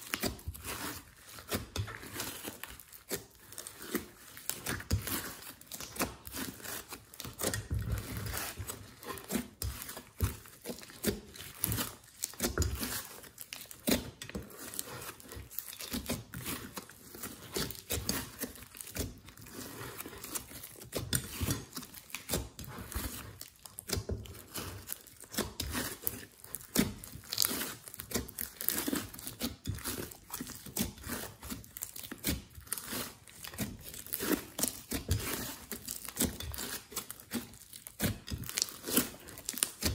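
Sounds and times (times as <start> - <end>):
slime crackling and squelching: 0.0 - 39.9.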